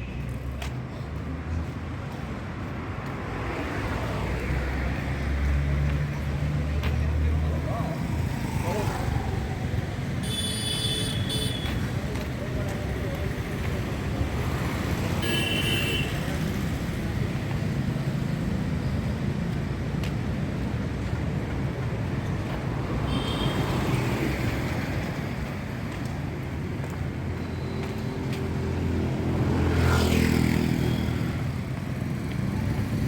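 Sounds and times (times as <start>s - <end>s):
road traffic: 0.0s - 33.0s.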